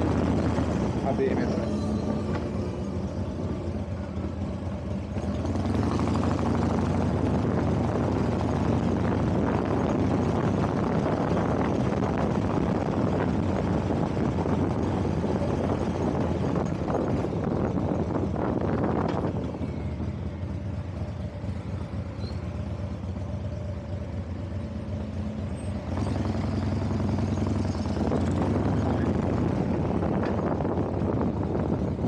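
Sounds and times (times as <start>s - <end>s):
road and wind noise: 0.0s - 32.0s
vehicle engine accelerating: 0.0s - 32.0s.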